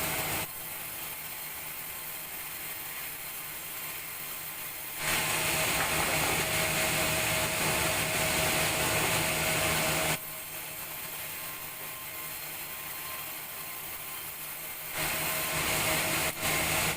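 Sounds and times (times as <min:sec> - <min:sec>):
sawmill saw running: 0:00.0 - 0:16.9.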